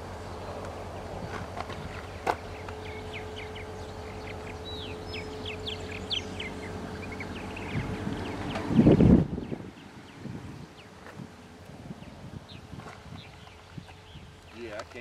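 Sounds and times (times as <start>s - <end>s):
songbirds chirping: 0.0s - 15.0s
steady low hum: 0.0s - 15.0s.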